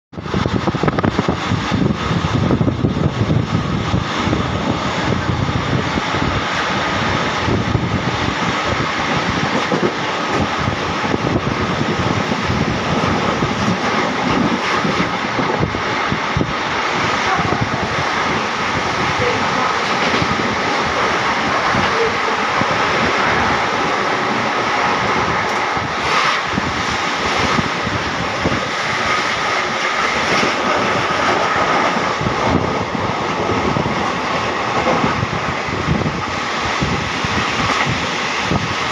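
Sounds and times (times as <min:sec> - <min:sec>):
rushing air: 0:00.1 - 0:38.9
train wheels rumbling on rails: 0:00.1 - 0:38.9.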